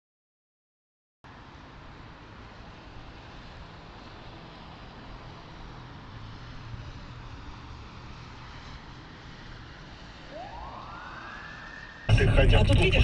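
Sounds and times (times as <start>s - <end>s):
car road and engine noise: 1.3s - 13.0s.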